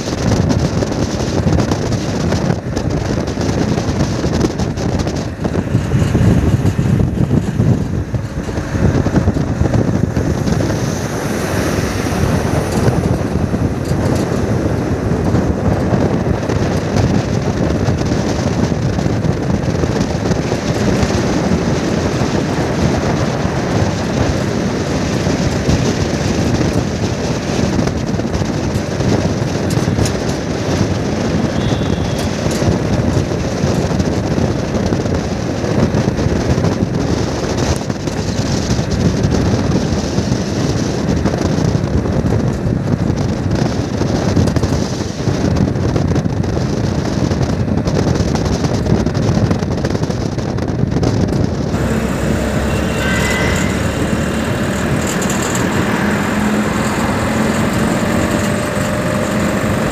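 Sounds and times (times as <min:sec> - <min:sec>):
vehicle road noise: 0:00.0 - 0:59.9
wind rushing over microphone: 0:00.0 - 0:59.9.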